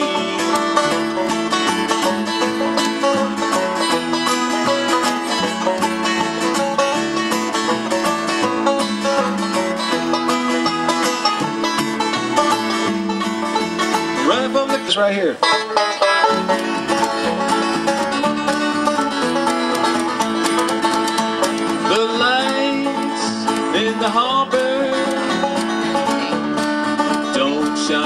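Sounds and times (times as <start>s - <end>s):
banjo picking: 0.0s - 28.0s
plucked upright bass: 0.0s - 28.0s
strummed acoustic guitar: 0.0s - 28.0s.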